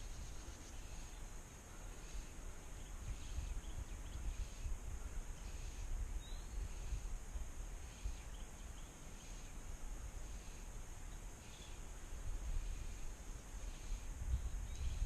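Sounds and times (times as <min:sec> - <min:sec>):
faint bird chirps: 0:00.0 - 0:15.0
wind rumble on microphone: 0:00.0 - 0:15.0.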